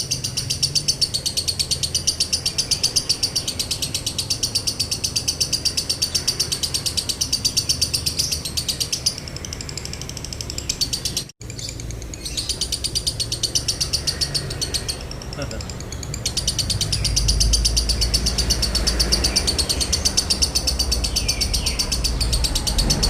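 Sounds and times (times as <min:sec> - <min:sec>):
lovebird chattering: 0:00.0 - 0:23.0.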